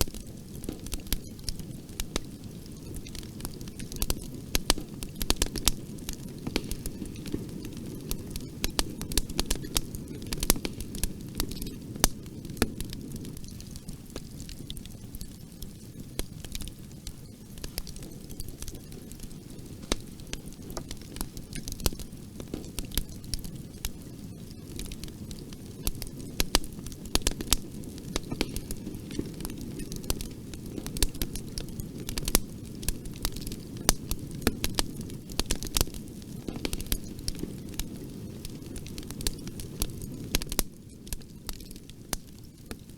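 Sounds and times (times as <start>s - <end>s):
burning wood crackling: 0.0s - 42.9s
rumble of flames: 0.0s - 42.9s.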